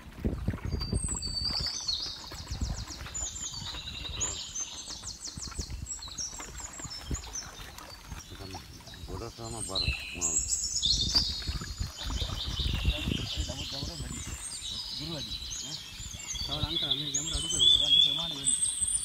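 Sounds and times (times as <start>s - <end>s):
songbird singing: 0.5s - 19.0s.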